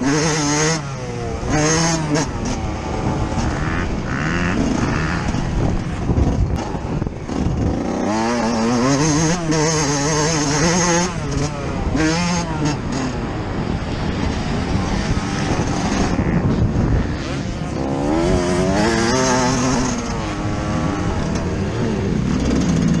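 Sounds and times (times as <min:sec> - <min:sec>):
two-stroke motorcycle engine revving: 0:00.0 - 0:23.0
wind noise: 0:00.0 - 0:23.0.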